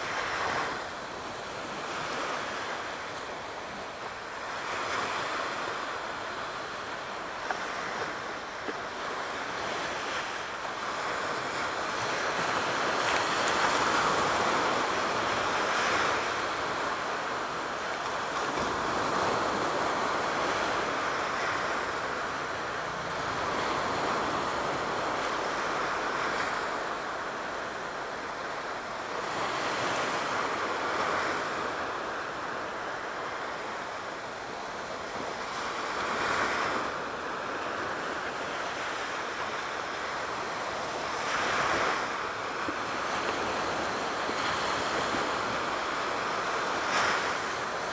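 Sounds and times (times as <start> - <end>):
sea waves washing in: 0.0 - 47.9.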